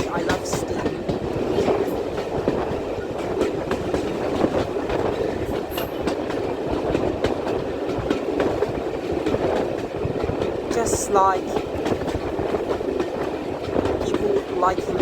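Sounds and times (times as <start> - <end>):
steam train rumbling: 0.0 - 15.0
wheels clicking over rail joints: 0.0 - 15.0.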